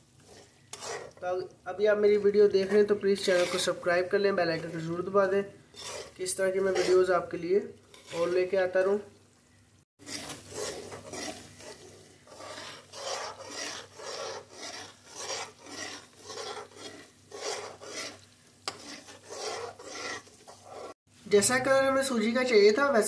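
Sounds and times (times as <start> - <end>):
metal spatula scraping and stirring: 0.0 - 9.1, 10.0 - 21.0.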